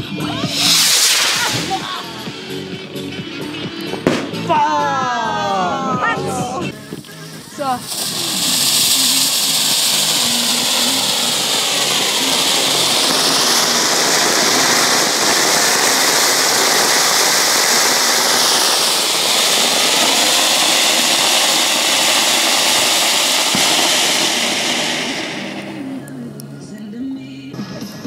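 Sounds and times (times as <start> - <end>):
fountain firework hissing: 0.0 - 26.3.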